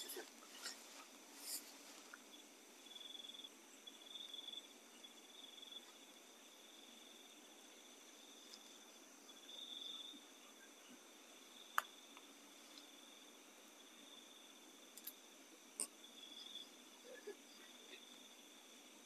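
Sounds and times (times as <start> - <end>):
cricket trills: 0.0 - 19.0
faint high whine: 0.0 - 19.0.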